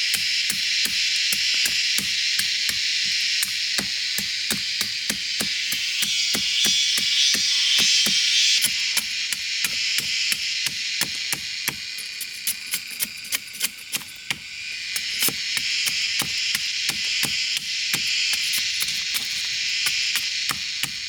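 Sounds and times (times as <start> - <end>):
tool striking hard material: 0.0 - 21.0.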